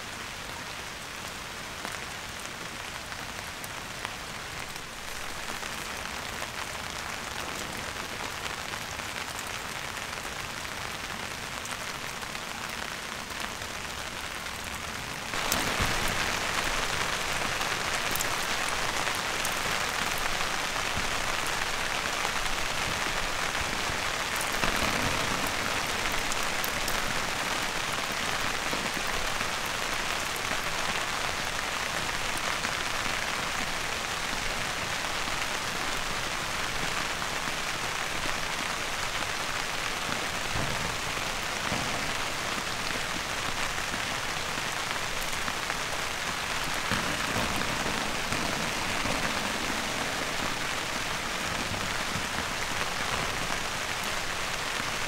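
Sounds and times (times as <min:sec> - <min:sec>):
rain falling on a tarp: 0:00.0 - 0:55.0.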